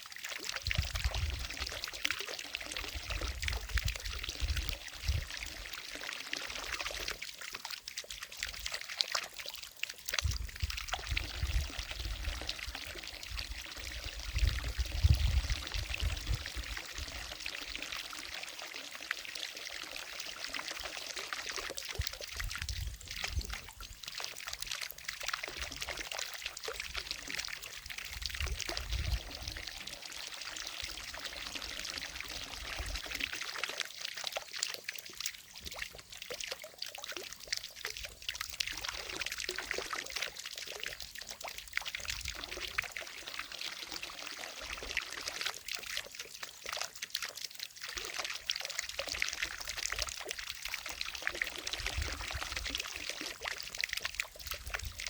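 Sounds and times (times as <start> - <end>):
fountain water splashing into lake: 0.0 - 55.0.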